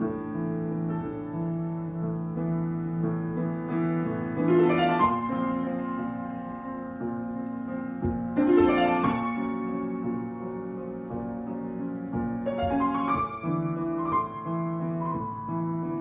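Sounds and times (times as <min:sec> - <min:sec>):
solo piano improvisation: 0:00.0 - 0:16.0.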